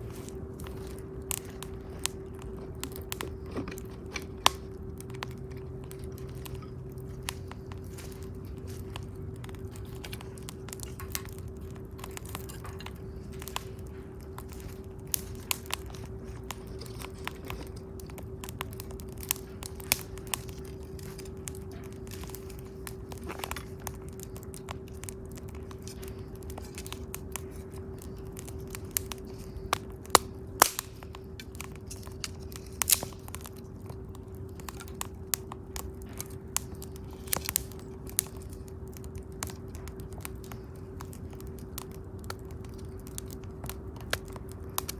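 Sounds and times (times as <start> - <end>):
campfire crackling and popping: 0.0 - 44.9
steady low hum: 0.0 - 44.9.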